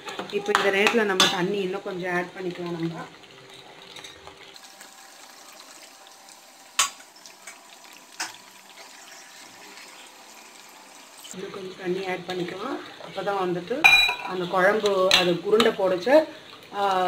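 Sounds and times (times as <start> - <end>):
curry bubbling in a pan: 0.0 - 17.0.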